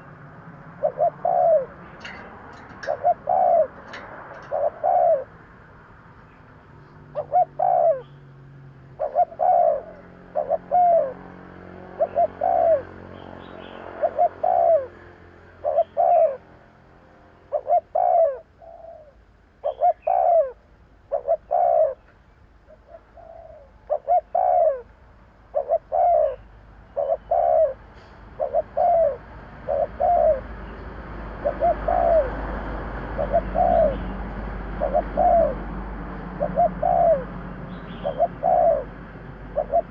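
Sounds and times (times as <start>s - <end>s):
dove cooing: 0.0s - 5.4s, 7.0s - 8.2s, 8.9s - 16.5s, 17.5s - 22.0s, 22.7s - 24.9s, 25.5s - 39.9s.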